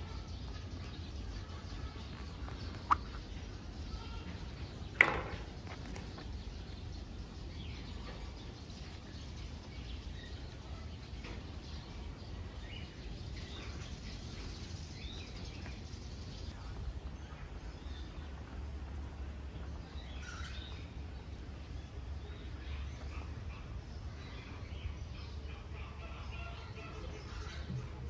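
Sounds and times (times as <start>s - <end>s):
faint chirping calls: 0.0s - 28.0s.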